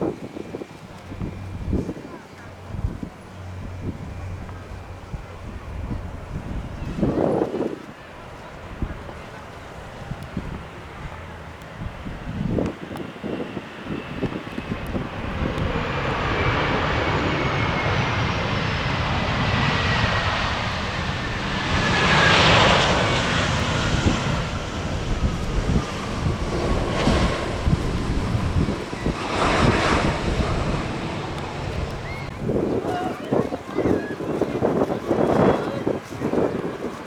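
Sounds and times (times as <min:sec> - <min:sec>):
jet engines roaring: 0:00.0 - 0:37.0
wind buffeting microphone: 0:00.0 - 0:37.0.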